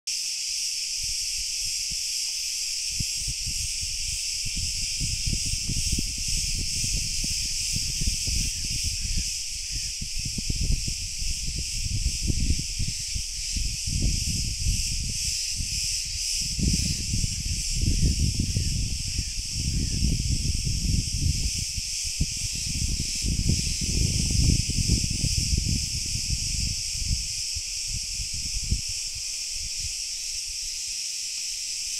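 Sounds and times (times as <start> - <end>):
cicadas buzzing: 0.1 - 31.9
wind gusts on microphone: 0.8 - 31.9.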